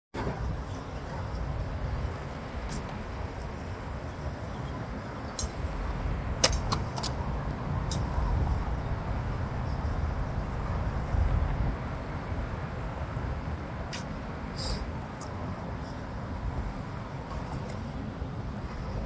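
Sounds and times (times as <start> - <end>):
steady low rumble: 0.2 - 19.0.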